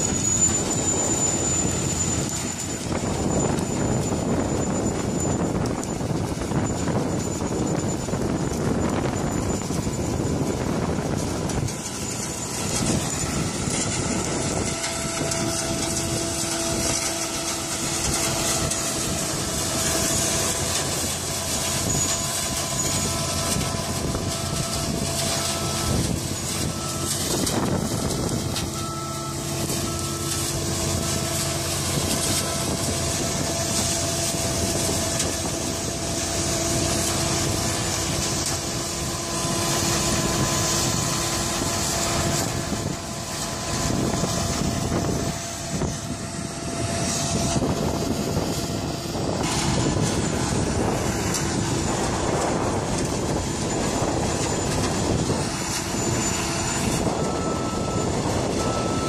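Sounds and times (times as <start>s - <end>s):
combine harvester drone: 0.0s - 59.0s.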